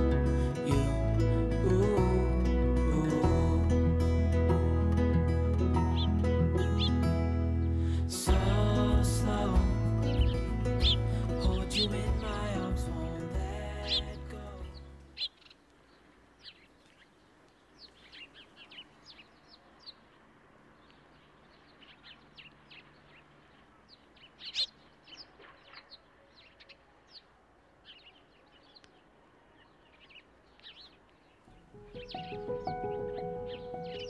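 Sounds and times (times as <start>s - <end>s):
small birds chirping: 5.7s - 34.0s.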